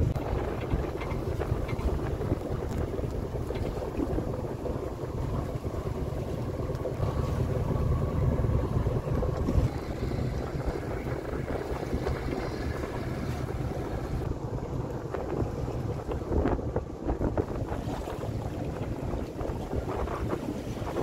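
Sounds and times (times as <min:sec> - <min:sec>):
water noise: 0:00.0 - 0:21.0
wind buffeting microphone: 0:00.0 - 0:21.0.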